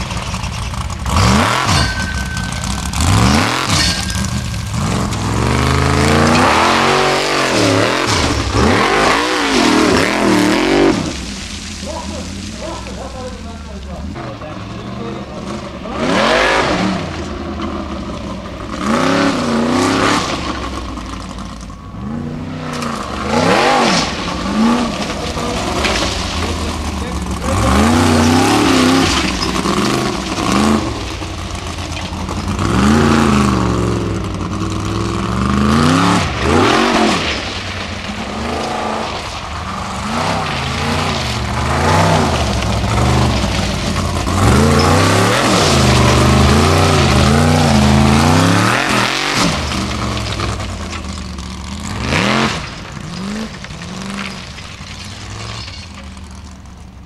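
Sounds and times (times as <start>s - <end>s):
buggy engine revving hard: 0.0s - 56.5s.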